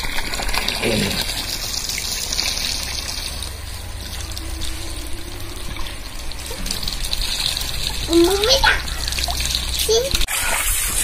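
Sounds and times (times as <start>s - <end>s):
low hum: 0.0s - 9.8s
water trickling: 0.0s - 11.0s.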